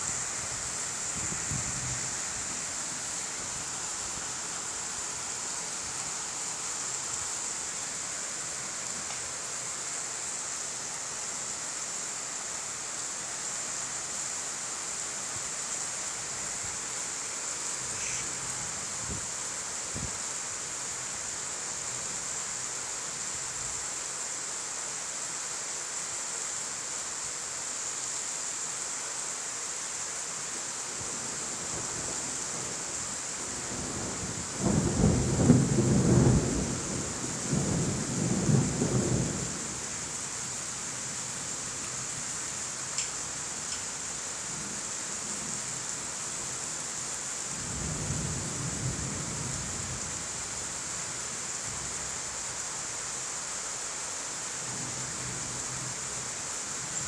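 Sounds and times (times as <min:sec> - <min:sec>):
rain hissing: 0:00.0 - 0:24.3, 0:27.3 - 0:57.0.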